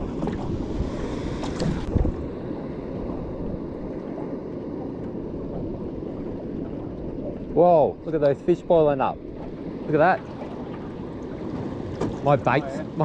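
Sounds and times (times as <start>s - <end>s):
water lapping around boat: 0.0s - 13.0s
wind on microphone: 0.0s - 13.0s.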